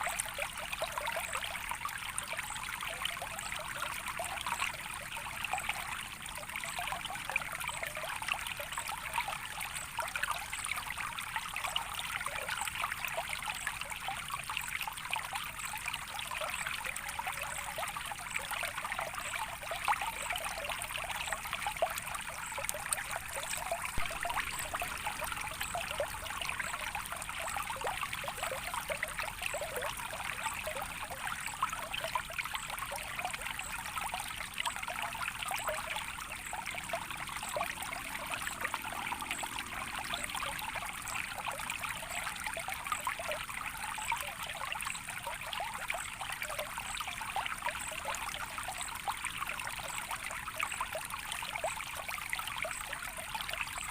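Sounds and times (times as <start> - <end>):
small stream trickling: 0.0 - 53.9.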